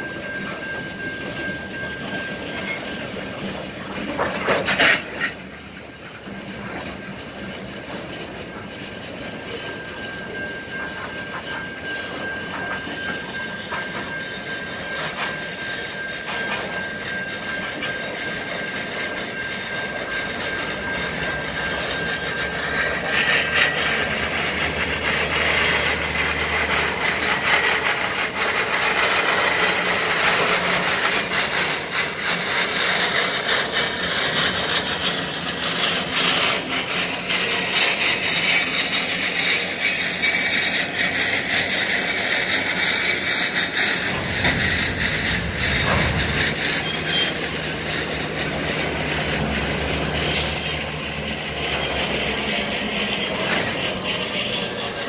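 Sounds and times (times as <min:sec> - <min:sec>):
diesel locomotive rumble: 0:00.0 - 0:55.0
steel wheels clicking on rails: 0:00.0 - 0:55.0.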